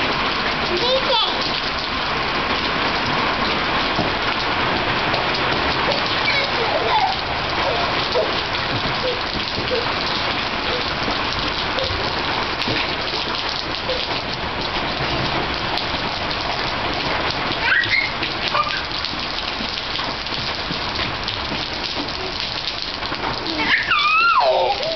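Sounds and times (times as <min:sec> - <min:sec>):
rain falling on paving: 0:00.0 - 0:24.9.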